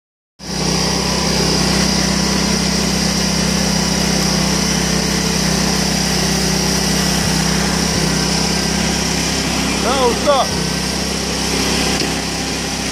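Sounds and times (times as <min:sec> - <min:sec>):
small engine running: 0:00.4 - 0:12.9.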